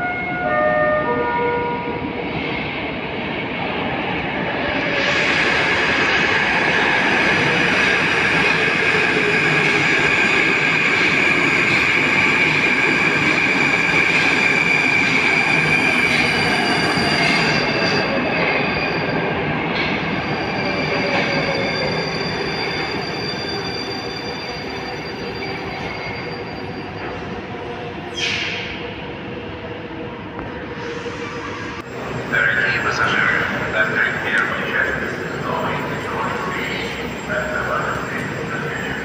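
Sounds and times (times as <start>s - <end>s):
metro train rolling and braking: 0.0s - 39.0s.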